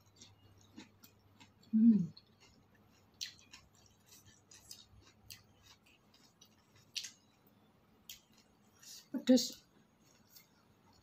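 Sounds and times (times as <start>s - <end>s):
chewing crunches and clicks: 0.0s - 8.9s, 10.0s - 11.0s.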